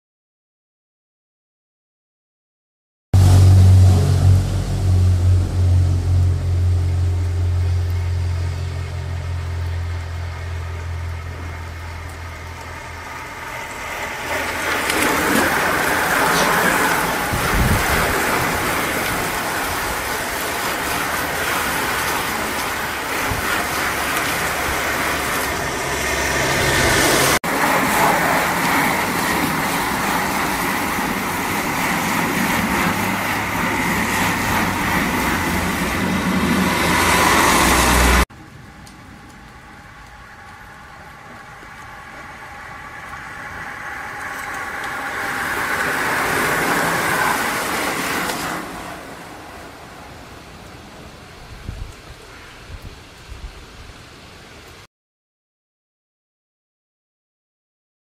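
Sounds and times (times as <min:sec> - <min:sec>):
low engine hum: 0:03.2 - 0:51.7
tyres hissing on wet road: 0:03.2 - 0:54.8.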